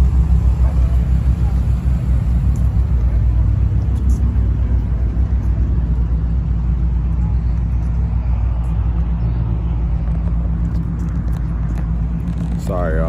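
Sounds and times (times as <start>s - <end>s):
car engines rumbling: 0.0s - 13.0s
low droning tones: 0.0s - 13.0s.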